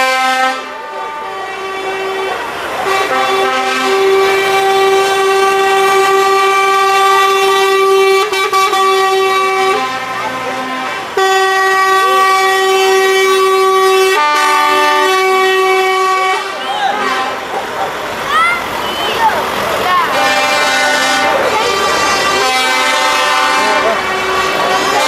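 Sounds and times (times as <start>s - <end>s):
horn chord: 0.0s - 17.5s, 20.1s - 25.0s
truck air horn blasts: 0.0s - 17.7s, 20.1s - 25.0s.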